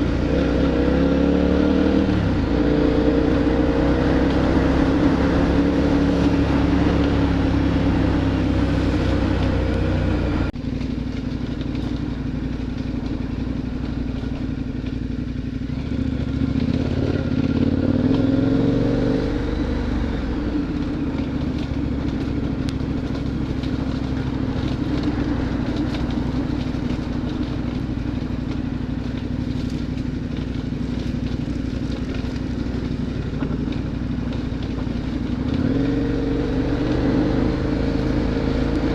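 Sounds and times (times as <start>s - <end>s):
motorcycle engine droning: 0.0s - 38.9s
road noise: 0.0s - 38.9s.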